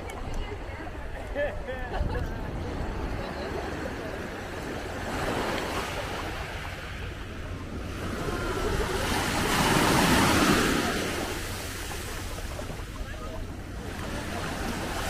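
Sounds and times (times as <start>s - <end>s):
surf washing on beach: 0.7s - 15.0s.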